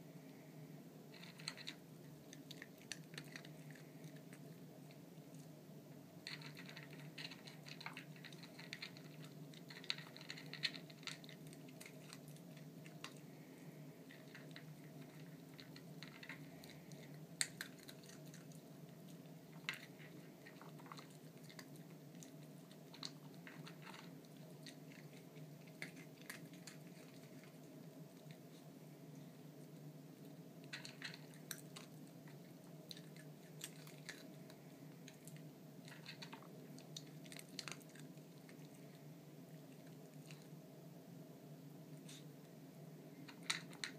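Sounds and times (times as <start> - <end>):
steady low hum: 0.0 - 43.9
dog chewing: 1.1 - 5.6, 6.2 - 40.6.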